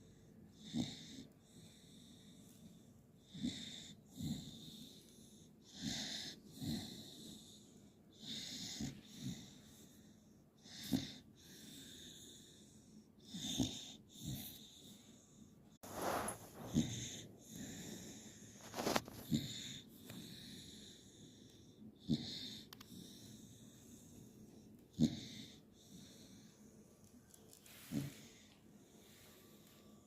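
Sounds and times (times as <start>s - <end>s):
dog snoring: 0.5s - 2.6s, 3.2s - 26.7s, 27.8s - 29.4s.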